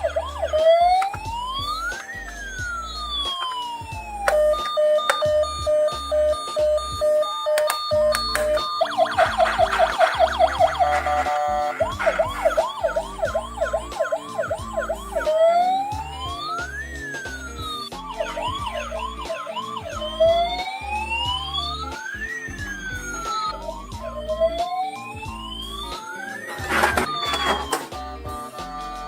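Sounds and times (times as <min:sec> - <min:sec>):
electronic ambulance siren: 0:00.0 - 0:28.0
low electronic tune: 0:00.0 - 0:28.6.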